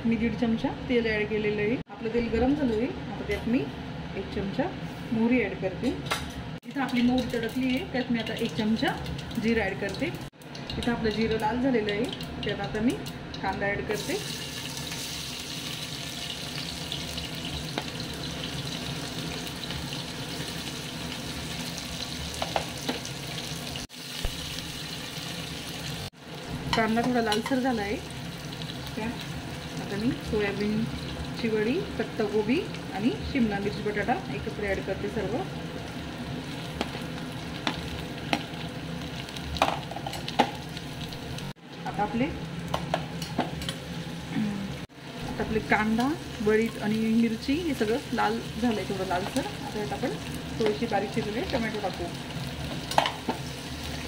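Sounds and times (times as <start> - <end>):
onions sizzling in oil: 6.6 - 54.0.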